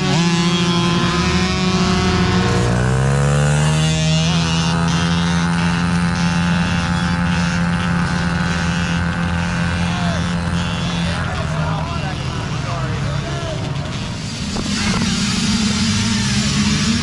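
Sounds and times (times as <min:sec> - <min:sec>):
small dirt bike engines revving: 0:00.0 - 0:17.0.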